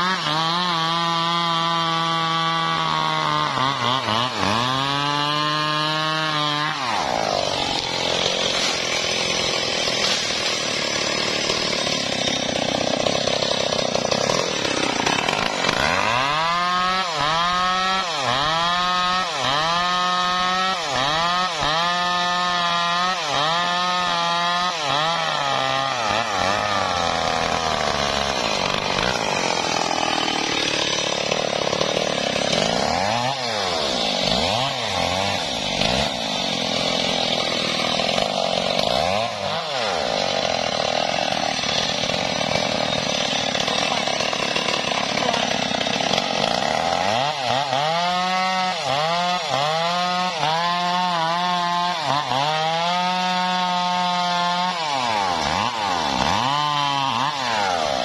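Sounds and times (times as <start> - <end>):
chainsaw sawing through log: 0.0 - 58.0.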